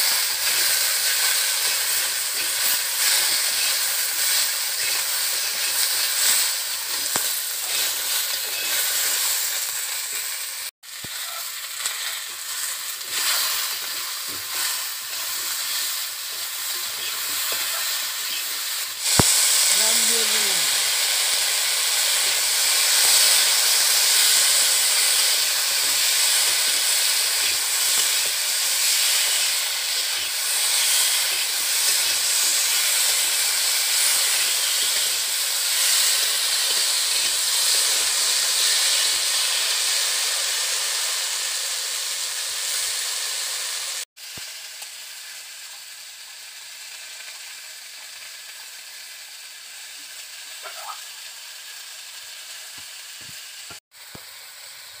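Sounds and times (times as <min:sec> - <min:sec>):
food frying in wok: 0:00.0 - 0:55.0.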